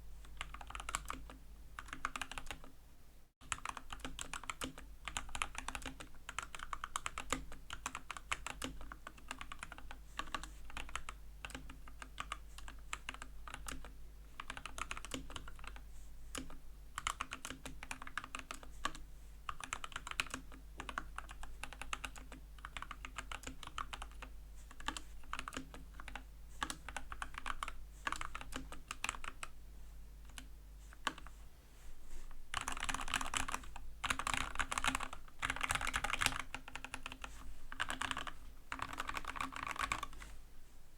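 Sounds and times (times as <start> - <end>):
mechanical keyboard typing: 0.4 - 2.7, 3.4 - 29.5, 32.5 - 40.2.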